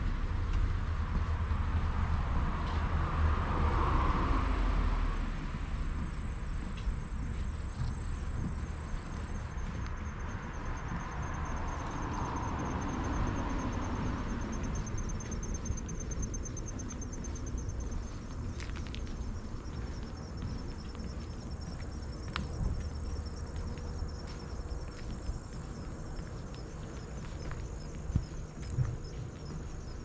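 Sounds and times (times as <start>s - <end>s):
steady low rumble: 0.0s - 30.0s
crickets trilling: 3.8s - 30.0s.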